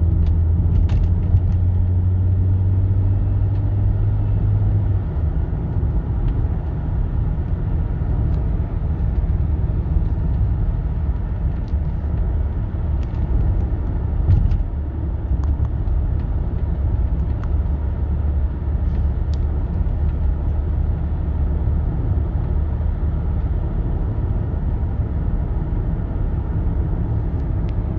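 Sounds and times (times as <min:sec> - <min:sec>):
engine and road noise drone: 0:00.0 - 0:27.9.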